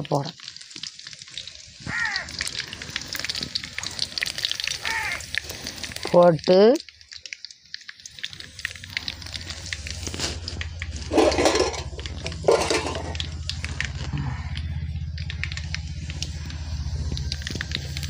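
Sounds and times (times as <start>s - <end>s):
hot oil sizzling and popping: 0.0s - 18.0s.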